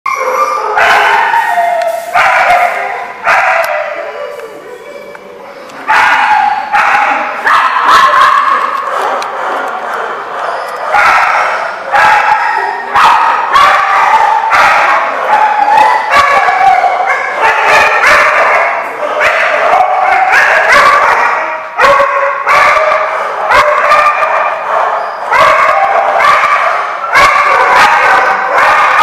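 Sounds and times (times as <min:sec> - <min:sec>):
dogs barking and yipping: 0:00.1 - 0:29.0.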